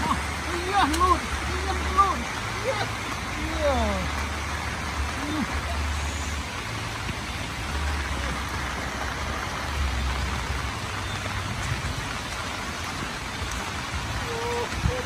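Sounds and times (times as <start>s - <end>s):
rain falling on grass and leaves: 0.0s - 15.0s.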